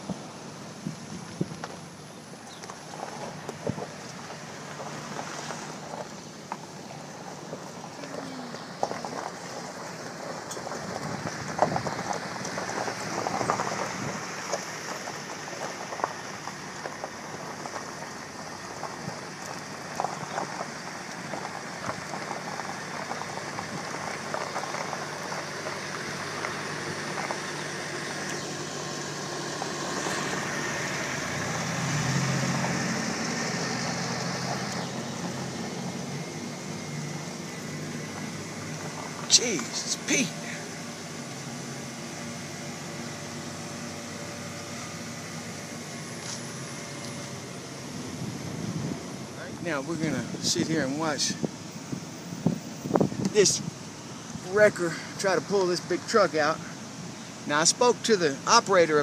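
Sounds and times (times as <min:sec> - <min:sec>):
low engine hum: 0:00.0 - 0:59.0
passing vehicles: 0:00.0 - 0:59.0.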